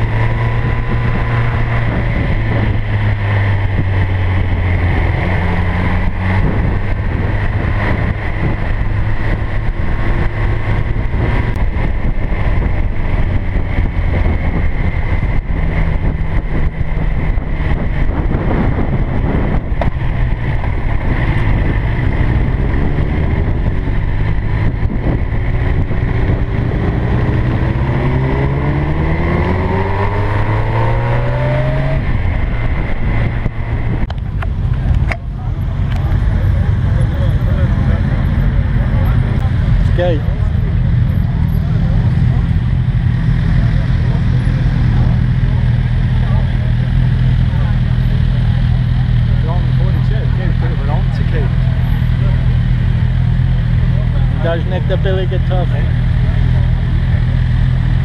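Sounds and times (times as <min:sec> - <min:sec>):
wind rushing over microphone: 0:00.0 - 0:47.5
motorcycle engine running: 0:00.0 - 0:58.0.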